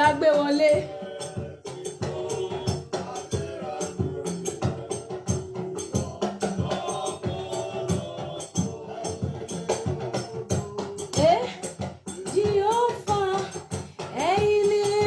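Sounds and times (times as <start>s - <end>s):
drums: 0.0s - 15.0s
gospel music: 0.0s - 15.0s
shakers: 0.0s - 15.0s.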